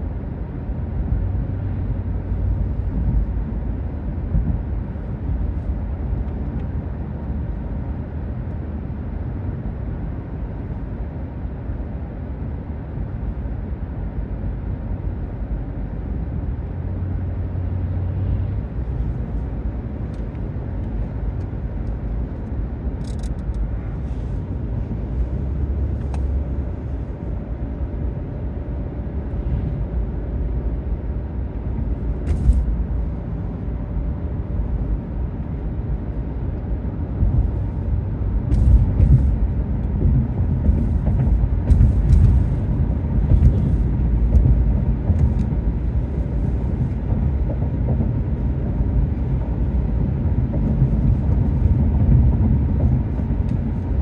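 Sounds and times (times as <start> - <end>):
car tyres and engine rumble: 0.0 - 54.0.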